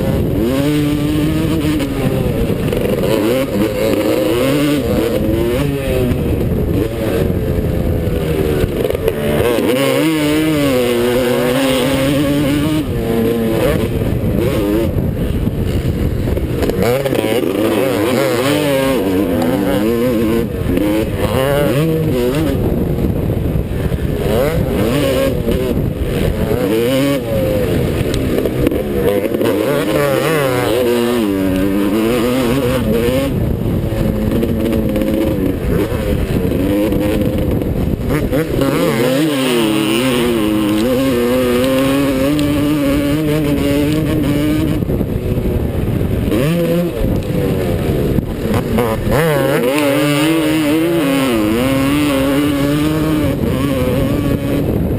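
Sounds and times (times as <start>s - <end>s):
two-stroke motorbike engine revving: 0.0s - 54.9s
wind rushing: 0.0s - 54.9s.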